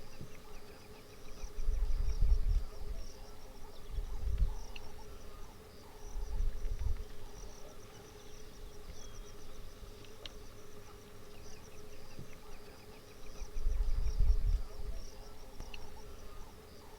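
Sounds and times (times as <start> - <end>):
insects chirping: 0.0 - 16.9.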